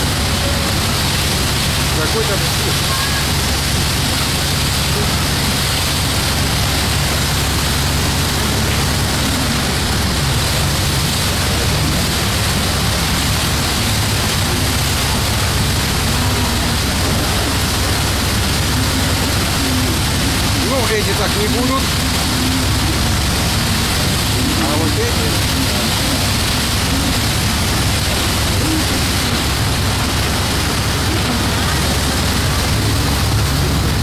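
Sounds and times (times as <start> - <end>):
low engine drone: 0.0 - 34.0
wake water rushing: 0.0 - 34.0.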